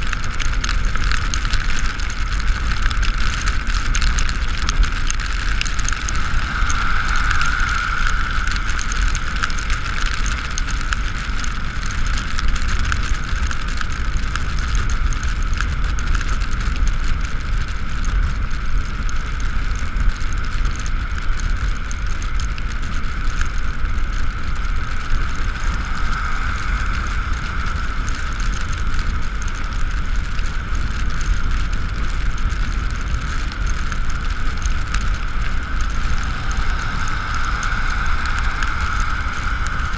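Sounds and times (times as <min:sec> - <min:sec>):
electric scooter high whine: 0:00.0 - 0:39.9
wind and road rumble: 0:00.0 - 0:39.9.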